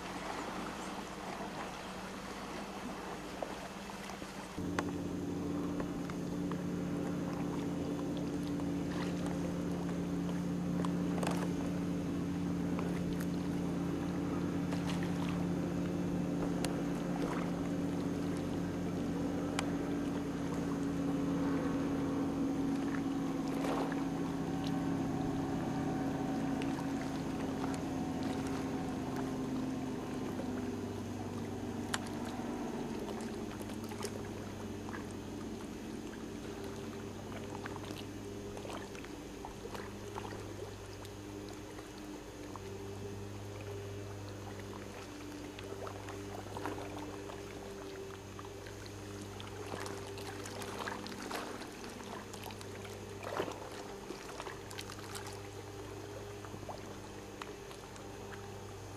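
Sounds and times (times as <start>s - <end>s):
boat motor idling: 0.0s - 58.9s
water splashing and lapping: 0.0s - 58.9s.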